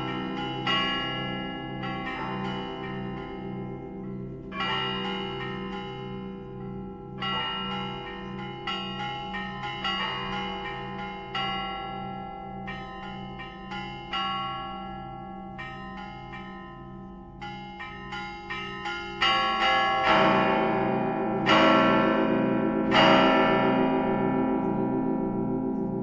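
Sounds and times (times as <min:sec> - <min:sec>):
low church bells: 0:00.0 - 0:26.0.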